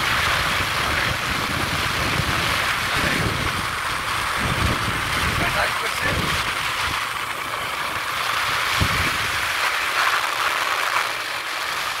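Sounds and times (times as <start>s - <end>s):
wind rushing over microphone: 0.0s - 9.9s
road noise: 0.0s - 12.0s
vehicle engine: 0.0s - 12.0s.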